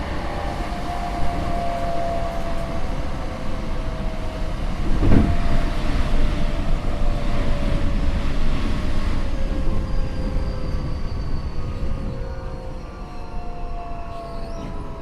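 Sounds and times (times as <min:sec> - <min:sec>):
train motor and inverter whine: 0:00.0 - 0:15.0
train running noise: 0:00.0 - 0:15.0.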